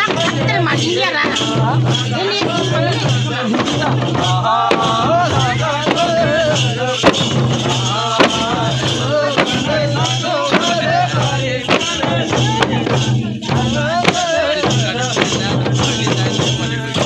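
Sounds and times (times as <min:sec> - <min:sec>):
steady percussion beat: 0:00.0 - 0:17.0
voices singing: 0:00.0 - 0:17.0.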